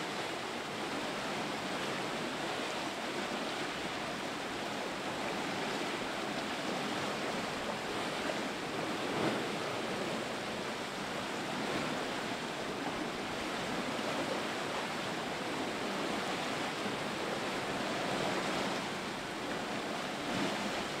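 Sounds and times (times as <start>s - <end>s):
sea water rushing: 0.0s - 21.0s
wind: 0.0s - 21.0s.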